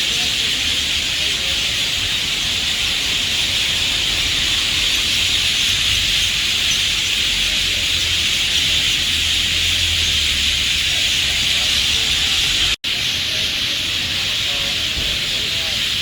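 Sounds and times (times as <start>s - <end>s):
chorus of many birds: 0.0s - 16.0s.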